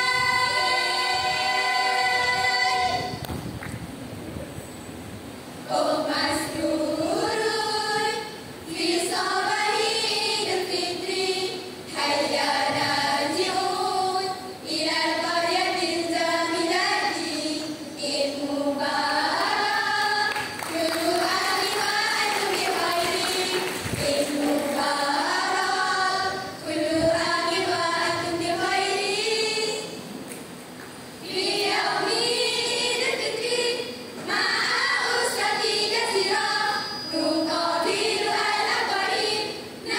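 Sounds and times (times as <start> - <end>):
girls reciting in unison: 0.0 - 3.1, 5.6 - 30.1, 31.2 - 39.9.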